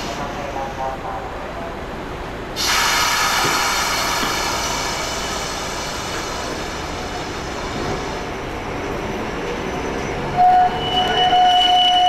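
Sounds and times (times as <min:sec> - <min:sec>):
streetcar running gear ringing: 0:00.0 - 0:12.0.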